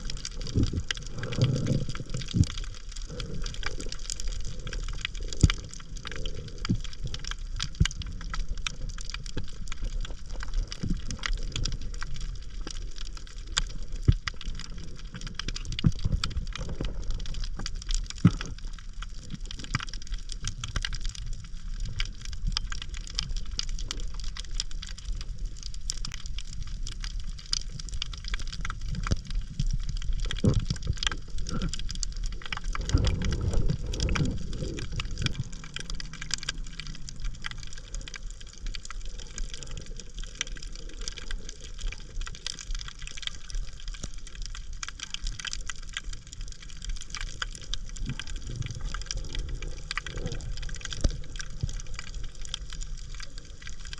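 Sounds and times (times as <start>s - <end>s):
water sloshing and gurgling: 0.0s - 53.9s.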